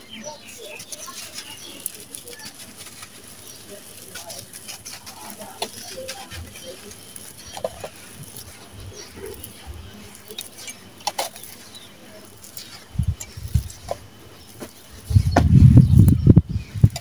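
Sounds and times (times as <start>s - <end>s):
gritty sand crumbling and pattering: 0.0s - 17.0s
soft thumps of clumps landing: 1.8s - 16.2s.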